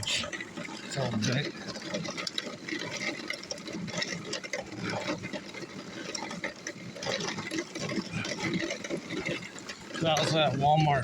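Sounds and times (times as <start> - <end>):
lawnmower rattling on pavement: 0.0 - 11.0.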